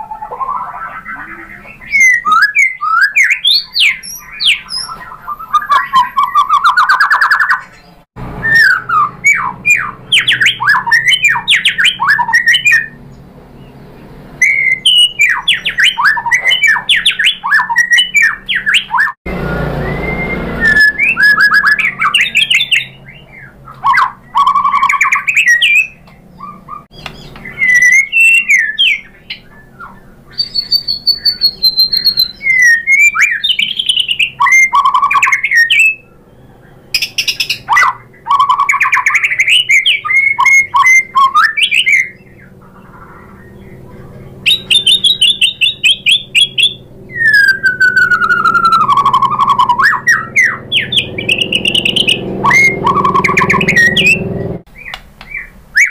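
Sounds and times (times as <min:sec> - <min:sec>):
bird singing whistles and trills: 0:00.0 - 0:13.8, 0:14.4 - 0:55.9.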